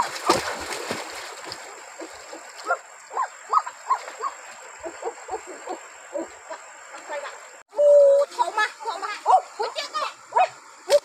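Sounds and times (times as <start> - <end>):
faint river water: 0.0 - 11.0.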